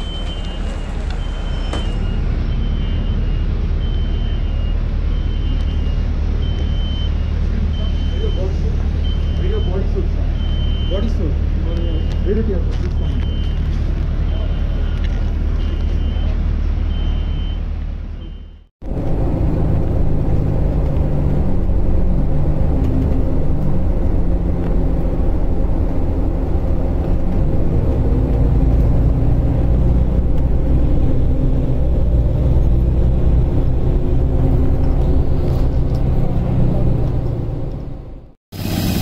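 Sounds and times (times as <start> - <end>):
bus engine rumble: 0.0 - 39.0.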